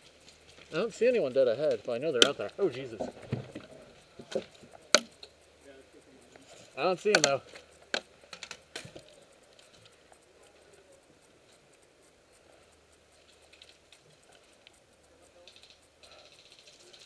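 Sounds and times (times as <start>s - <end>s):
faint ticks: 0.0s - 17.0s
light rustle: 0.0s - 17.0s.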